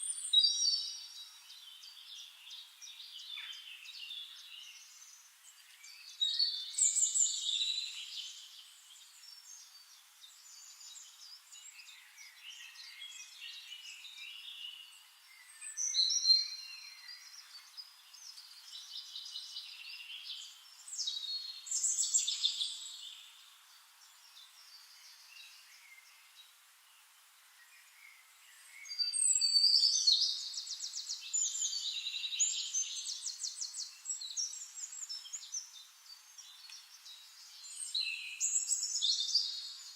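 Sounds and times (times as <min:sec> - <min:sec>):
songbirds chirping and warbling: 0:00.0 - 0:39.9.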